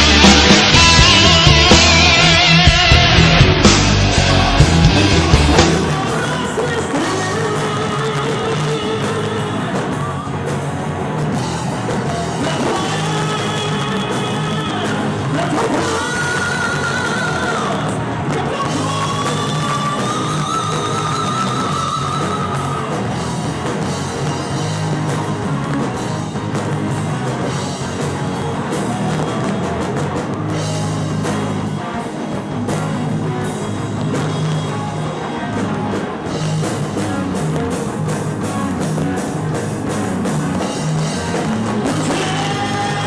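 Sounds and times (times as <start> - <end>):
instrumental rock music: 0.0 - 43.0.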